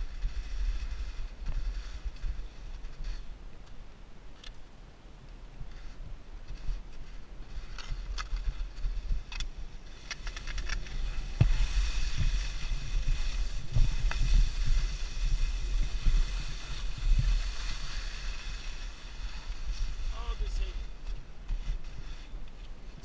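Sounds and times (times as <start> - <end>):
skis scraping over snow: 0.0 - 3.4, 5.6 - 23.0
wind rumbling on microphone: 0.0 - 23.0.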